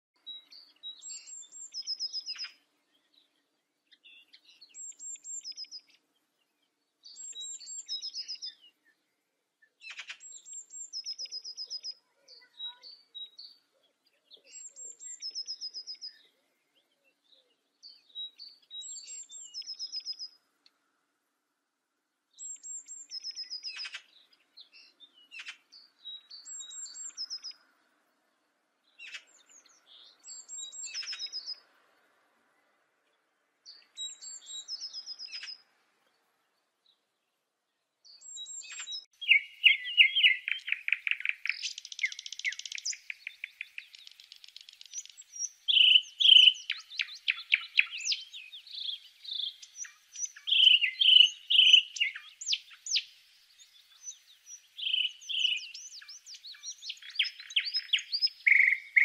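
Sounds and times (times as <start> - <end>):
blue tit singing: 0.2 - 9.0, 9.8 - 20.4, 22.4 - 27.7, 28.8 - 31.6, 33.6 - 35.6, 38.0 - 59.0.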